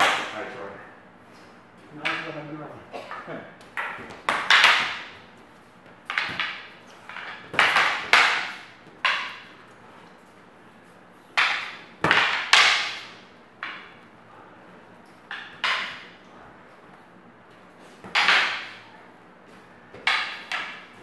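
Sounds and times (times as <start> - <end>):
fighting sticks clashing: 0.0 - 0.7, 2.0 - 10.3, 11.2 - 21.0.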